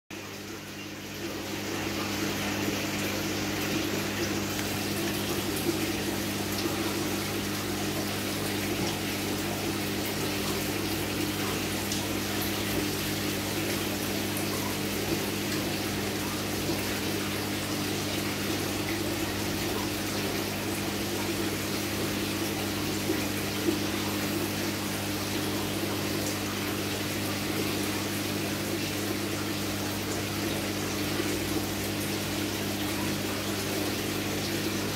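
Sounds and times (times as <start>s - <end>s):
pump electrical hum: 0.1s - 34.9s
water rushing: 0.2s - 34.9s.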